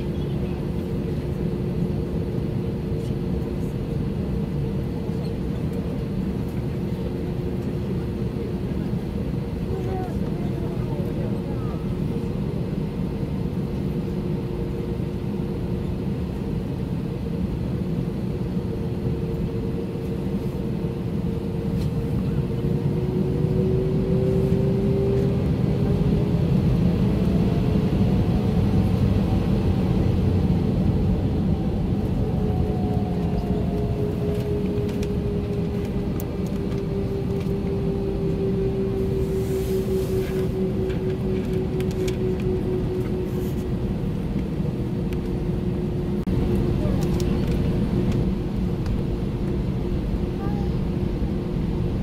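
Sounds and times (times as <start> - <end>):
airliner cabin engine rumble: 0.0 - 52.0
jet engine whine: 0.0 - 52.0.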